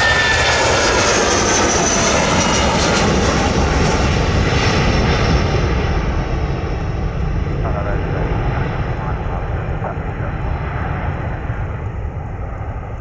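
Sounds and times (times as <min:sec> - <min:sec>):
faint high whine: 0:00.0 - 0:13.0
jet engine rush: 0:00.0 - 0:13.0.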